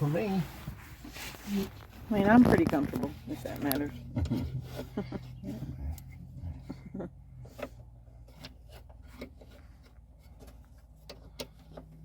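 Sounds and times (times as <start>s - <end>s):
hand tools clicking and scraping: 0.9s - 12.0s.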